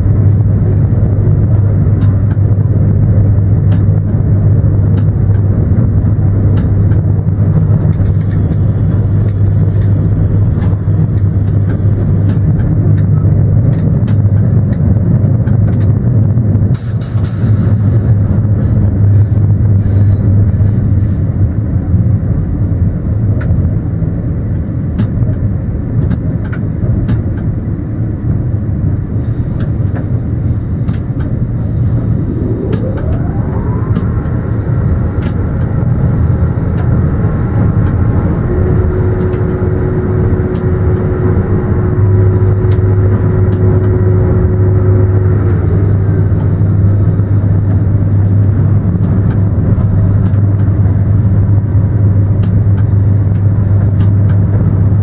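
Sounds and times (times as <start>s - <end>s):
locomotive low hum: 0.0s - 55.0s
wheel and rail rumble: 0.0s - 55.0s.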